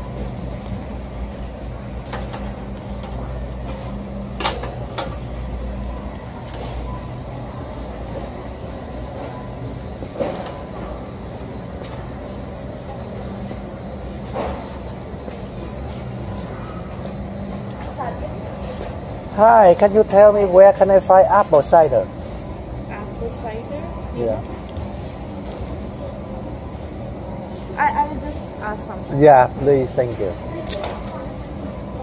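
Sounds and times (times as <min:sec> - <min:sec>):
shopping cart wheels rumbling: 0:00.0 - 0:32.0.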